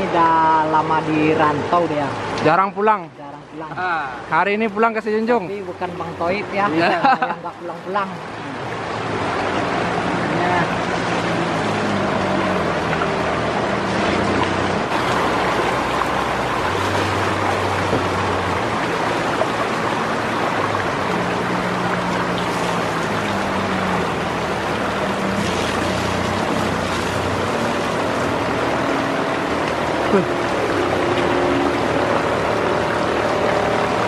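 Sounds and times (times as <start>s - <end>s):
river rushing over rocks: 4.2s - 34.0s.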